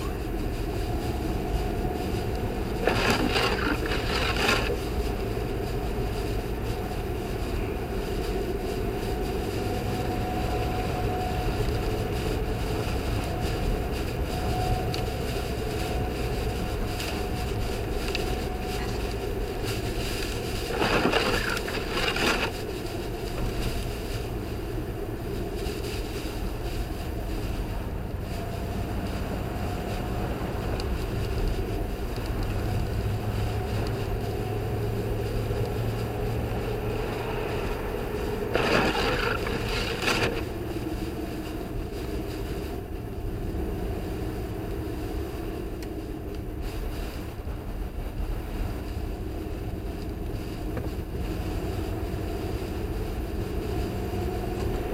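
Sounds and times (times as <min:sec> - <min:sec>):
car engine driving: 0:00.0 - 0:54.9
tyre noise on snowy road: 0:00.0 - 0:54.9.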